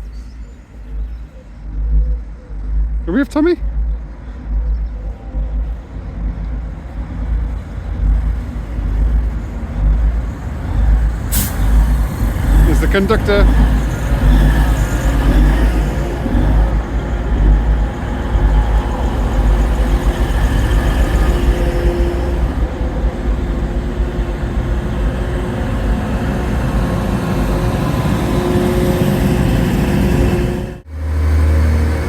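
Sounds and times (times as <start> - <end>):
faint steady tones: 0.0 - 31.9
vehicle engine rumbling: 0.0 - 32.0.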